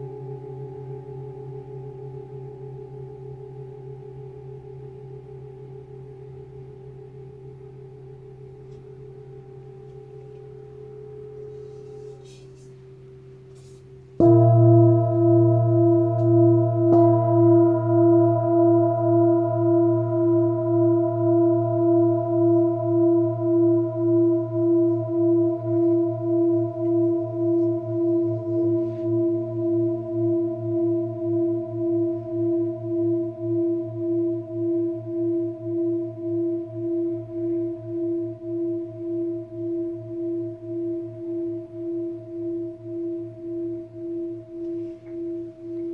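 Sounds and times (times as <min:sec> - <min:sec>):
singing bowl ringing: 0:00.0 - 0:13.5, 0:14.2 - 0:45.9.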